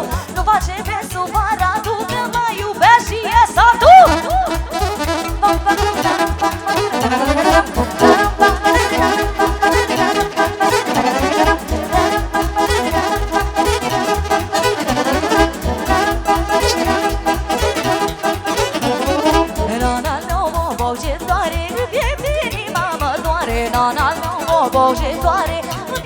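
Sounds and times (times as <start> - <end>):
folk band playing quick melody: 0.0 - 26.0.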